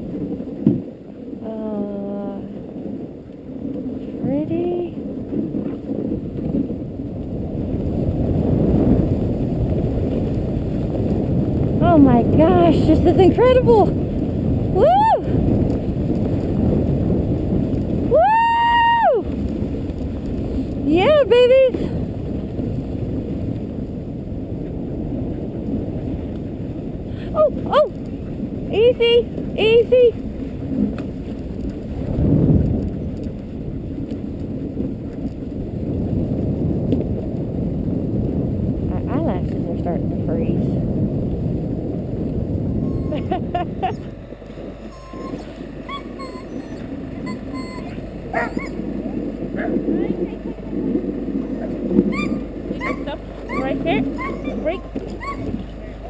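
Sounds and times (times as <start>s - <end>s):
sled runners rumbling over snow: 0.0s - 56.0s
wind on microphone: 0.0s - 56.0s.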